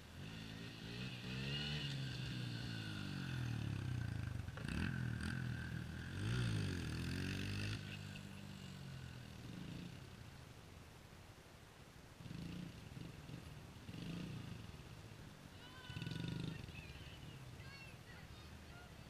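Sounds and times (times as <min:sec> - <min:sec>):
dirt bike engines revving: 0:00.0 - 0:10.2, 0:12.2 - 0:19.0.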